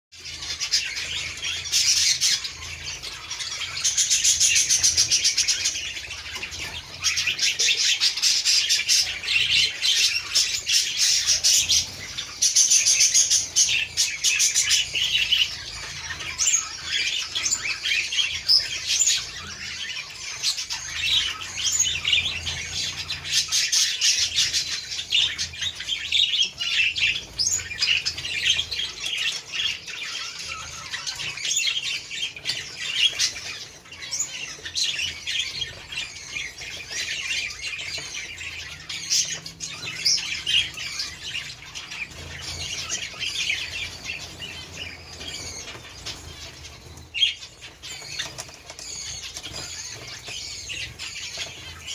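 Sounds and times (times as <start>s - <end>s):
finches chattering: 0.2s - 51.9s.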